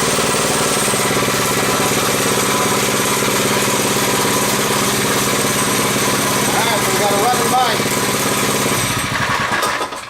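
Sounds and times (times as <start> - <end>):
small minibike engine running: 0.0 - 10.0.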